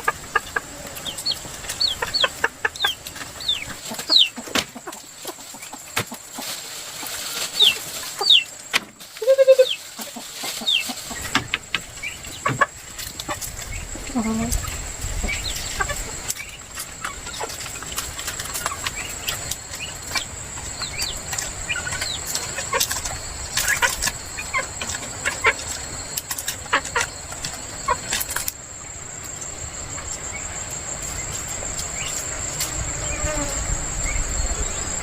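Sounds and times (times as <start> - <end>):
chickens clucking and peeping: 0.0 - 35.0
insects shrilling: 0.0 - 35.0.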